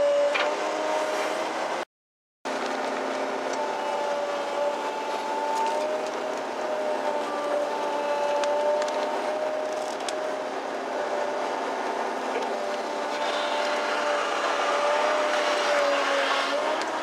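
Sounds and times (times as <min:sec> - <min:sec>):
excavator engine and hydraulics: 0:00.0 - 0:01.8, 0:02.5 - 0:17.0
steady hydraulic whine: 0:02.5 - 0:17.0.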